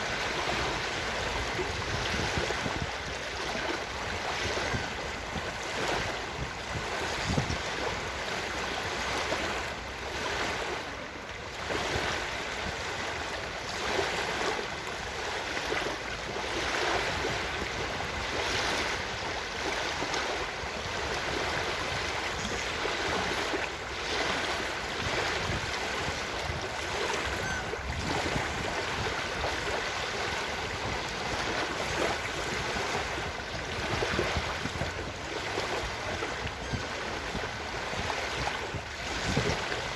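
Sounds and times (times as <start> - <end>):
ocean surf washing in: 0.0 - 39.9.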